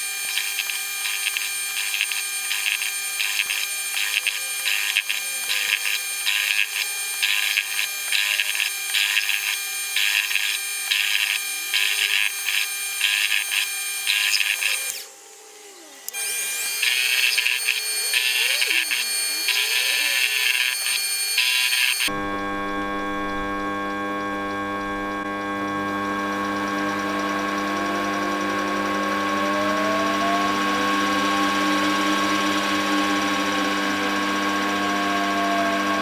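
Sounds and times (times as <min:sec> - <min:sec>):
lathe motor whining: 0:00.0 - 0:36.0.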